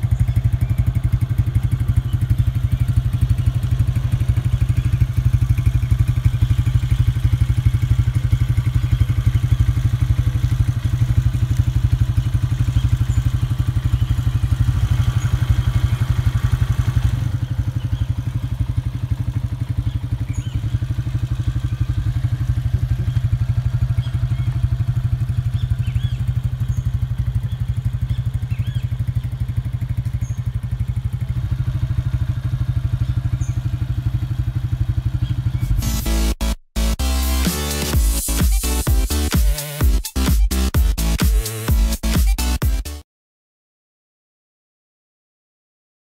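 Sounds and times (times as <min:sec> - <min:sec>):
motorcycle engine idling: 0:00.0 - 0:42.6.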